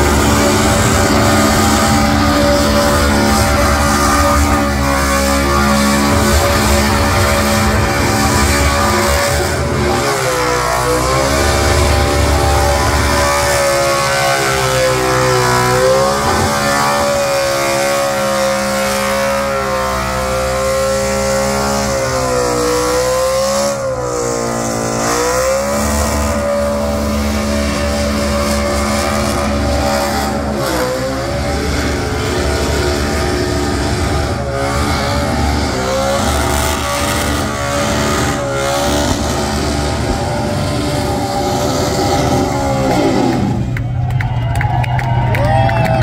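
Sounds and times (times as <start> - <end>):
car engine at high revs: 0.0 - 44.0.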